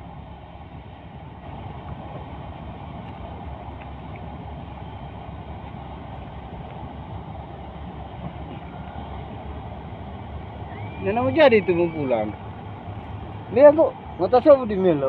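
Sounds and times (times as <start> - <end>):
boat engine: 0.0 - 15.0
water noise: 0.0 - 15.0.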